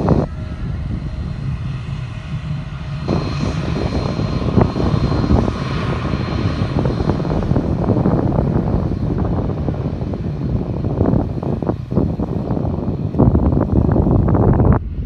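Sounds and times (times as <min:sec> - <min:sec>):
airplane engine rumble and whine: 0:00.0 - 0:15.0.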